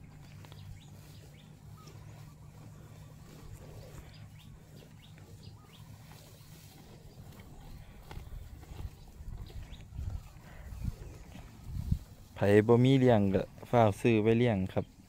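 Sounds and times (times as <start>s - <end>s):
steady low rumble: 0.0s - 14.1s
buffalo chewing dry grass: 0.0s - 15.0s.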